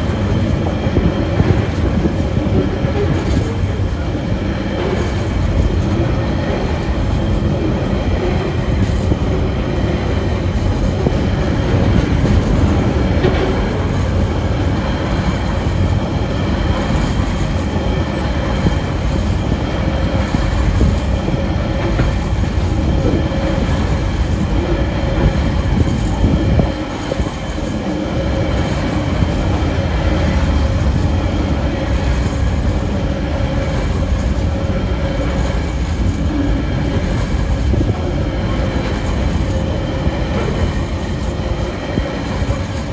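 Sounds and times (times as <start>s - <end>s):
freight train wheels rumbling on rail: 0.0s - 42.9s.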